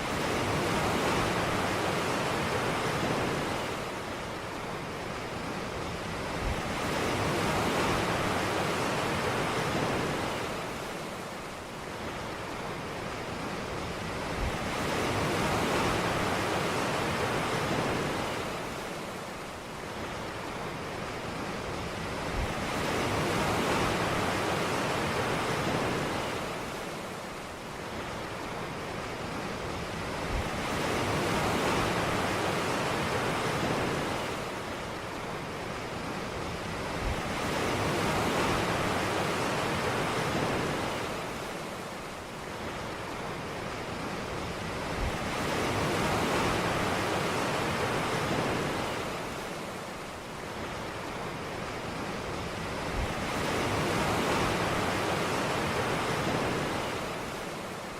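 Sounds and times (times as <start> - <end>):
ocean surf breaking on beach: 0.0 - 57.9.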